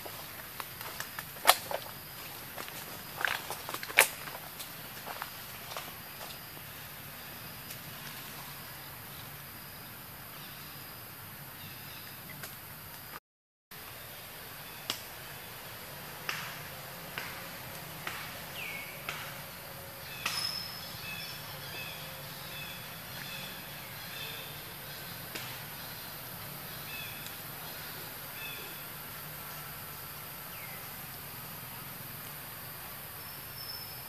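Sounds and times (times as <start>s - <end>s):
high insect drone: 0.0s - 13.2s, 13.8s - 34.0s.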